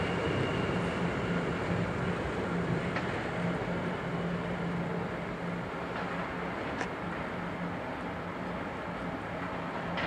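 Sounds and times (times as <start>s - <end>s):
electric locomotive rumbling: 0.0s - 10.0s.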